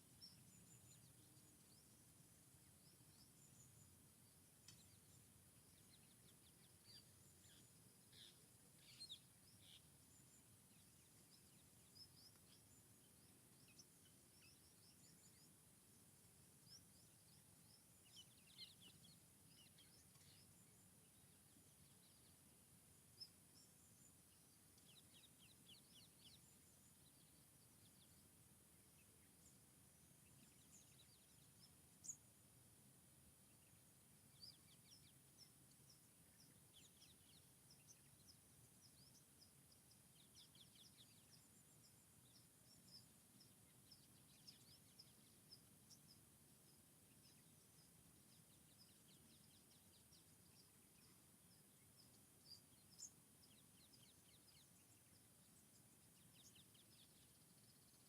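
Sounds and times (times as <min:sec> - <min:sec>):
faint birdsong: 0:00.0 - 0:58.0
faint steady background noise: 0:00.0 - 0:58.0.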